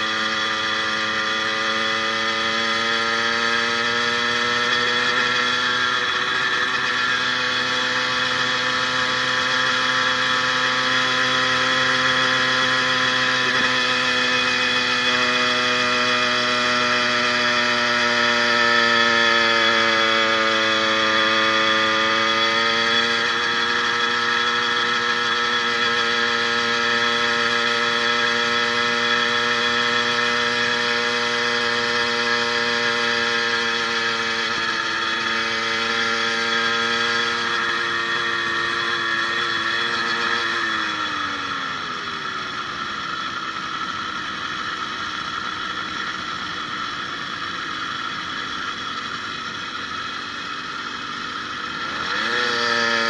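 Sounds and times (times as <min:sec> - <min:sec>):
two-stroke engine running: 0:00.0 - 0:53.0.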